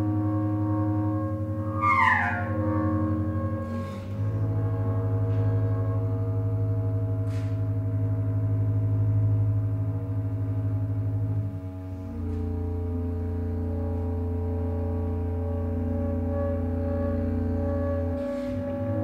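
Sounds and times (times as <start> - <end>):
chamber ensemble sustained chord: 0.0 - 19.0.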